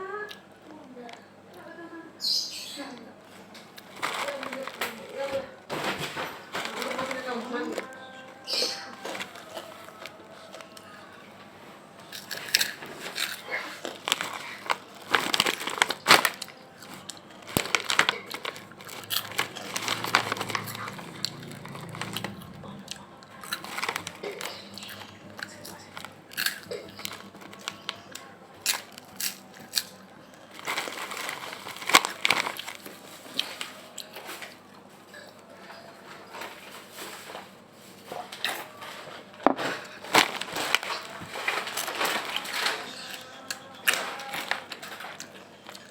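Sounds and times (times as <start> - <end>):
crispy snack crunching: 3.5 - 5.5, 6.1 - 11.3, 12.0 - 35.4, 39.6 - 45.9.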